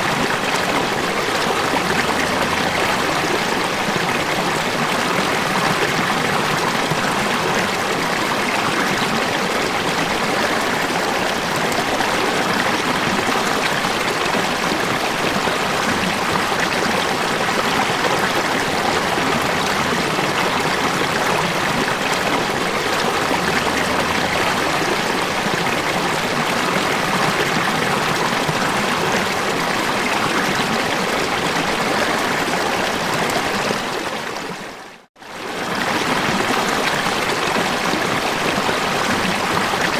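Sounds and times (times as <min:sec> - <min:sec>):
water rushing down: 0:00.0 - 0:34.1.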